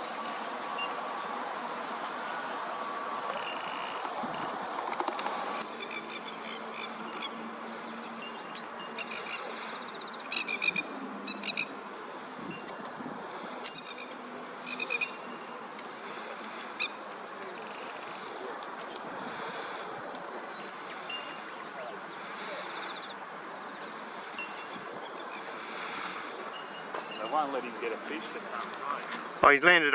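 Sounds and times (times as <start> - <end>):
steady background noise: 0.0 - 29.9
plovers giving rattling alarm calls: 3.3 - 29.2.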